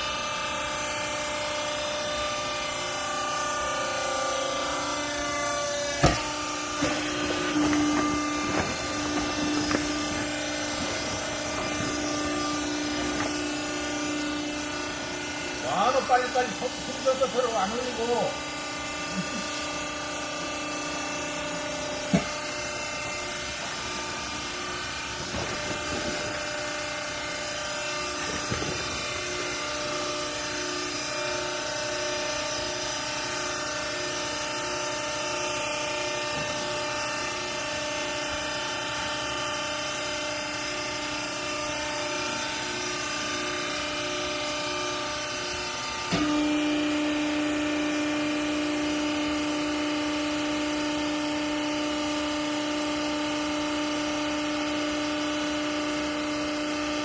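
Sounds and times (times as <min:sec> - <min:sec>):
hydraulic pump humming: 0:00.0 - 0:57.0.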